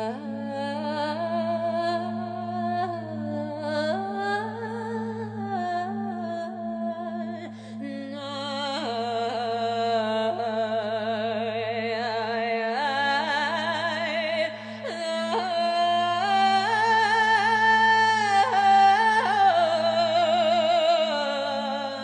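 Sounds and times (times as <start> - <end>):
high voice singing with vibrato: 0.0 - 22.0.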